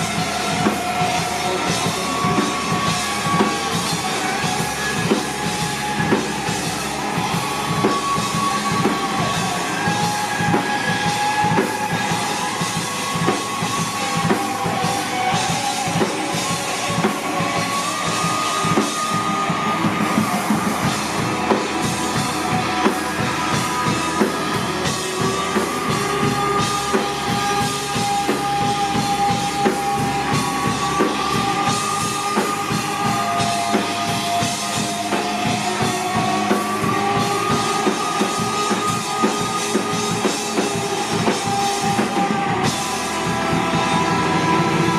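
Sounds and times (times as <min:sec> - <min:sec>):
drum kit steady beat: 0:00.0 - 0:44.9
electric guitar melody: 0:00.0 - 0:44.9.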